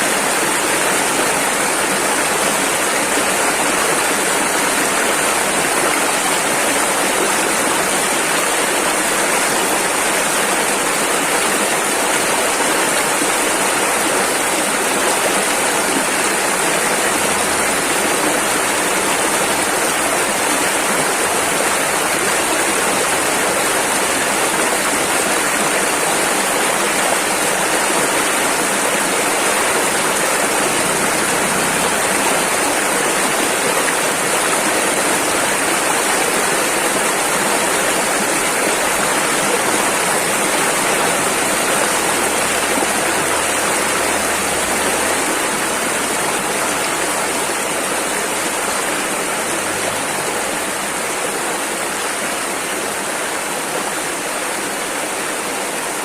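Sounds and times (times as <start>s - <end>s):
rushing river water: 0.0s - 56.0s.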